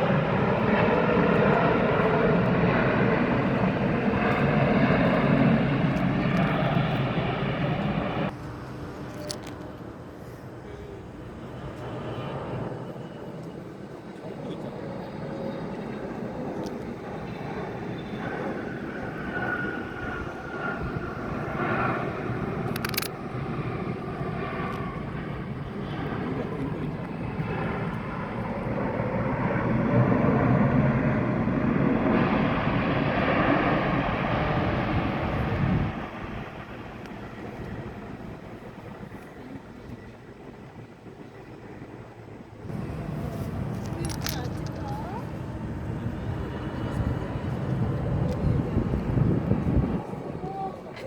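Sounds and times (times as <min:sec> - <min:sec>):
jet engines rumbling: 0:00.0 - 0:51.0.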